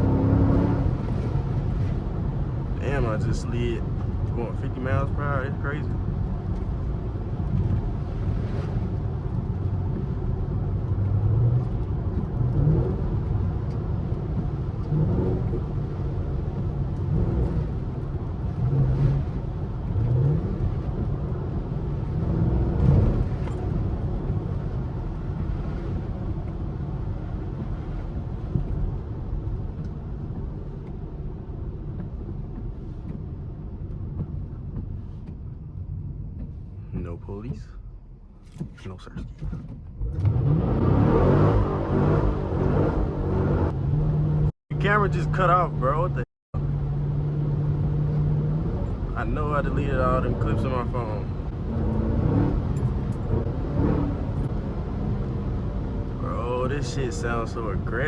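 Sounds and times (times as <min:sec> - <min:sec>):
car engine while driving: 0:00.0 - 0:58.0.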